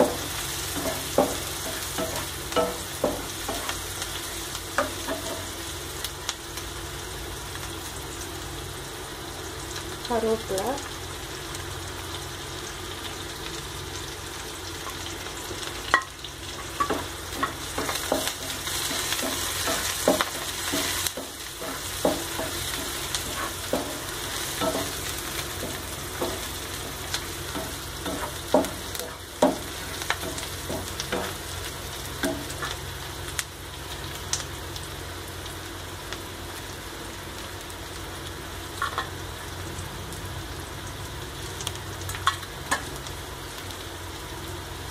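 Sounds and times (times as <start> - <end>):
food sizzling in oil: 0.0 - 44.9.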